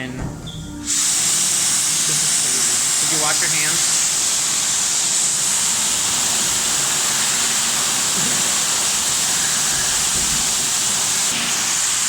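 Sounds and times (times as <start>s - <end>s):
electric hand dryer blowing: 0.8s - 12.0s.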